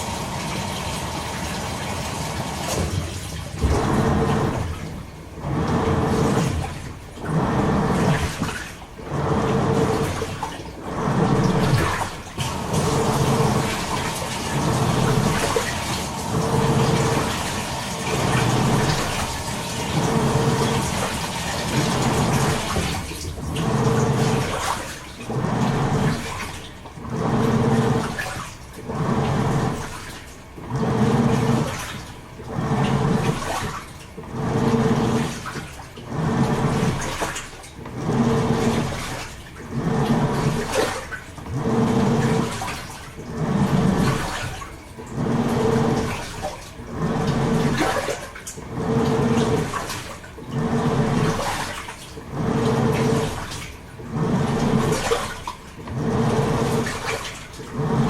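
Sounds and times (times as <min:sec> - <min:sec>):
washing machine agitating: 0:00.0 - 0:58.0.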